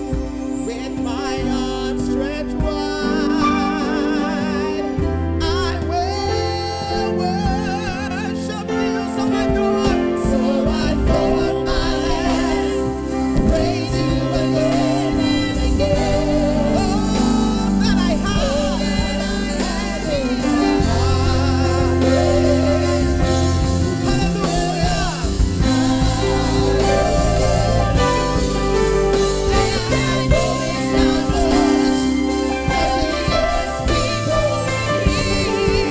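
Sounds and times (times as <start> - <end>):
band accompaniment with bass: 0.0 - 35.9
person singing worship song: 0.0 - 35.9.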